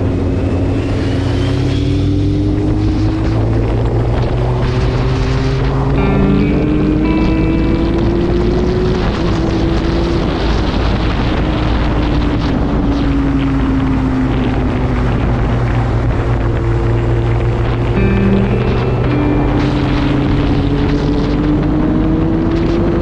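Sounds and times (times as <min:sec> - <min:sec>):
wind rushing over microphone: 0:00.0 - 0:23.0
motorcycle engine running: 0:02.2 - 0:23.0.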